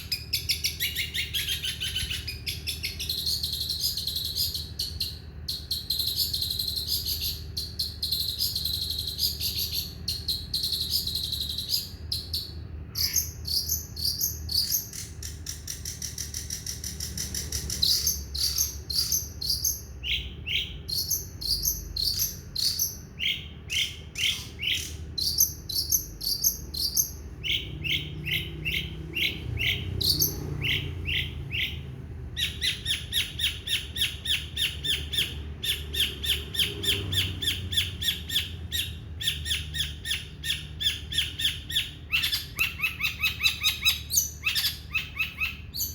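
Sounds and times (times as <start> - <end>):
shrike singing: 0.0 - 45.9.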